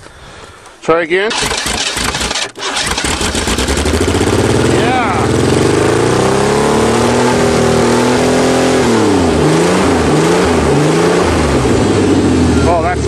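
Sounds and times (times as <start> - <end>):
pickup engine revving: 1.4 - 13.0.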